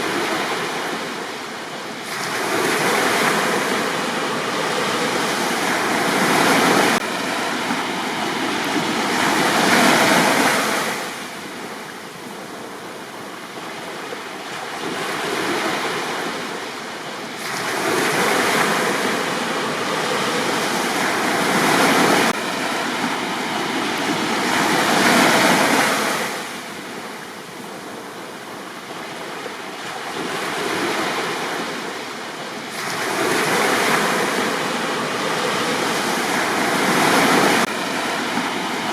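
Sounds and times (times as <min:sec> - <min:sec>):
sea waves washing onto beach: 0:00.0 - 0:38.9.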